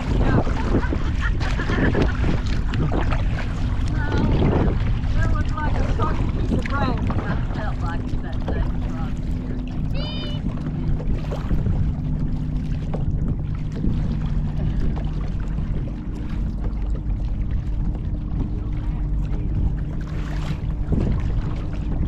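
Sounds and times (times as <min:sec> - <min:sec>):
paddle splashing in water: 0:00.0 - 0:22.0
wind rumble on microphone: 0:00.0 - 0:22.0.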